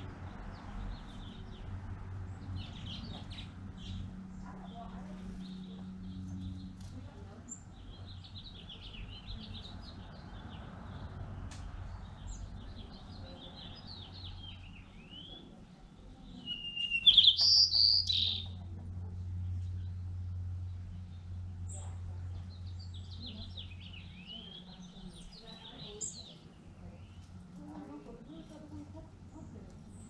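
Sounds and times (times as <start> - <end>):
wild birds chirping: 0.0 - 30.0.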